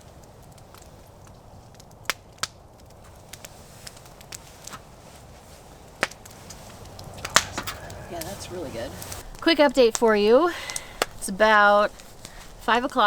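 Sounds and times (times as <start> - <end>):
burning wood popping: 0.0 - 13.0
campfire crackling: 0.0 - 13.0.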